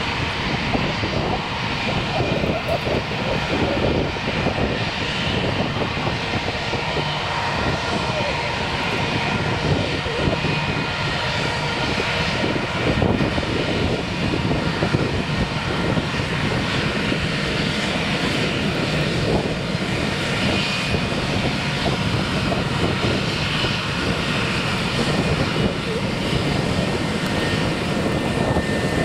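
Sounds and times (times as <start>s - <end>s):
jet engines at taxi power: 0.0s - 29.0s.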